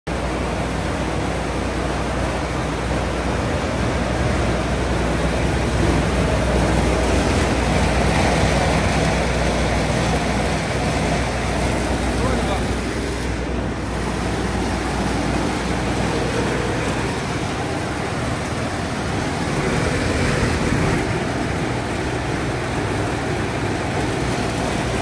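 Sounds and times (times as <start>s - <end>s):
grain machine running: 0.1s - 25.0s.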